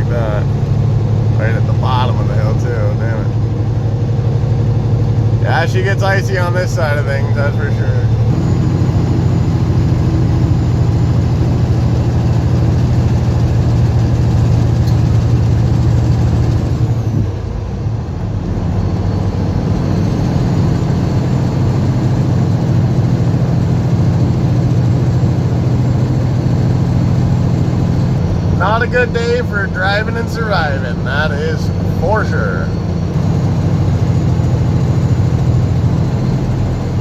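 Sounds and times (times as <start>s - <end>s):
truck diesel engine droning: 0.0s - 37.0s.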